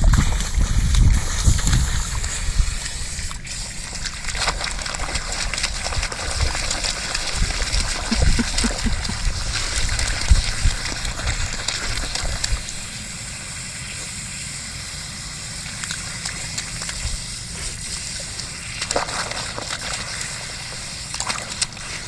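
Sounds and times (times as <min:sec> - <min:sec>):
dog splashing in a puddle: 0:00.0 - 0:22.0
water running from a hose: 0:00.0 - 0:22.0.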